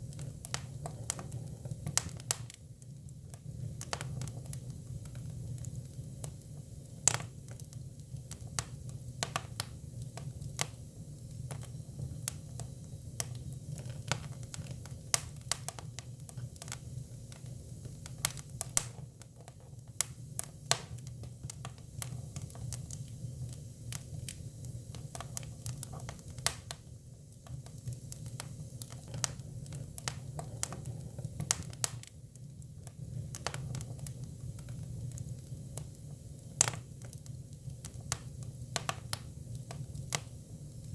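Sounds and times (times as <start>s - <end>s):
firewood crackling and popping: 0.0s - 40.9s
low rumble of fire: 0.0s - 40.9s.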